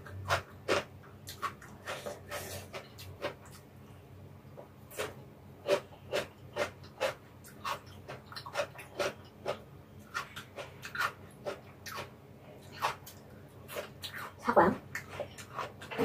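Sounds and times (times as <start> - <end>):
chewing food: 0.0 - 3.7, 4.6 - 16.0.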